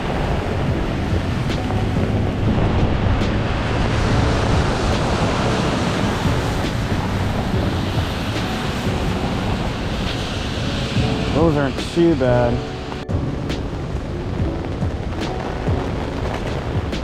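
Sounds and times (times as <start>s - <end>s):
rain falling: 0.0s - 17.0s
wind buffeting microphone: 0.0s - 17.0s.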